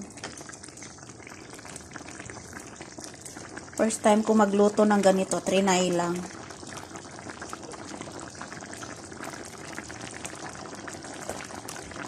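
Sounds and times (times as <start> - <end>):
stew bubbling in a pot: 0.0 - 12.0.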